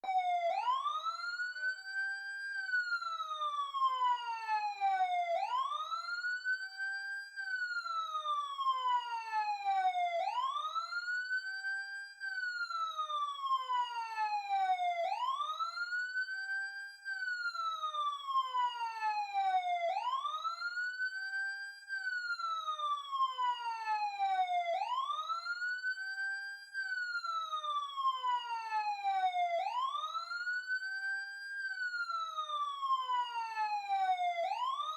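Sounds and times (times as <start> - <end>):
emergency siren wailing: 0.0 - 34.9.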